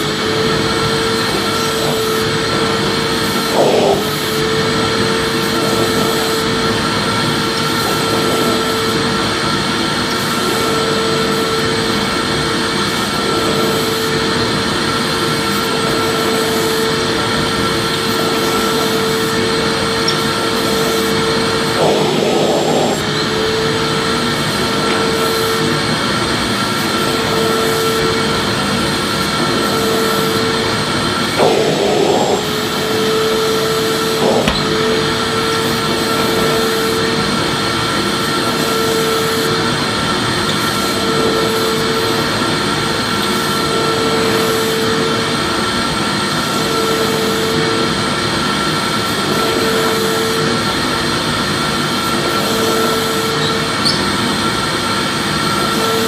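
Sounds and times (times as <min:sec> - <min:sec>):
vacuum cleaner motor running: 0:00.0 - 0:56.0.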